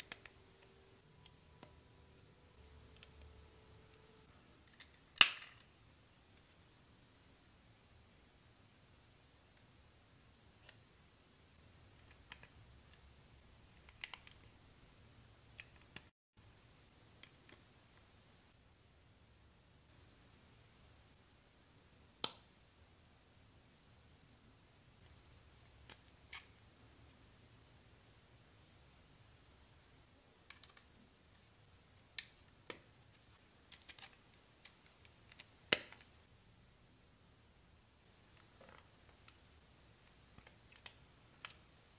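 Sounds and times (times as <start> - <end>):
low room hum: 0.0 - 41.9.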